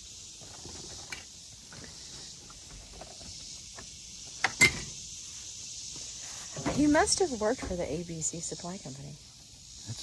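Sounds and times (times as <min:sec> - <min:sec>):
insect drone: 0:00.0 - 0:10.0.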